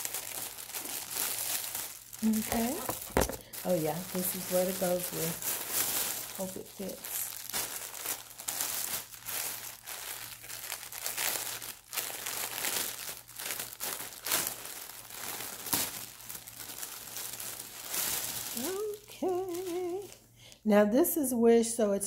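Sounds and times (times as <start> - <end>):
packaging rustling and crackling: 0.0 - 20.2.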